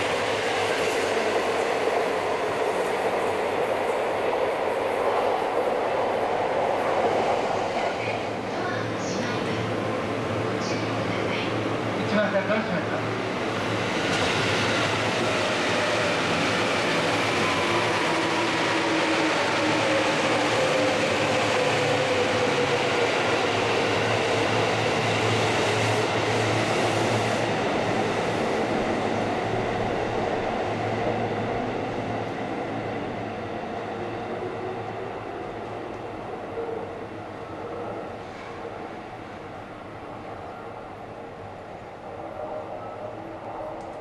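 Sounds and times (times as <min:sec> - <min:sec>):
electric train running past: 0:00.0 - 0:44.0.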